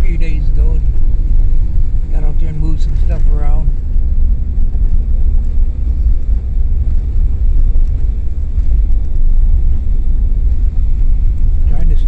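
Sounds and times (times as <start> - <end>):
car engine and tyres rumble: 0.0 - 12.0.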